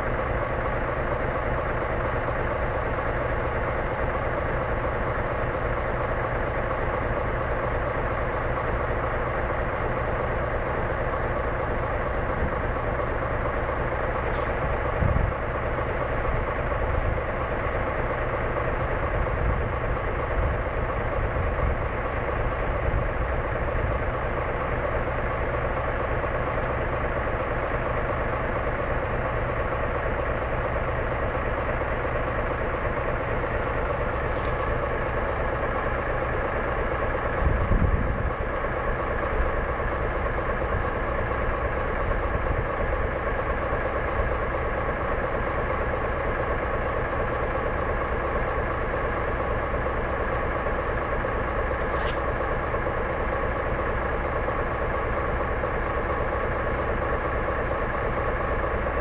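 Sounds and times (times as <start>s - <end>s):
steam train rumbling: 0.0s - 59.0s.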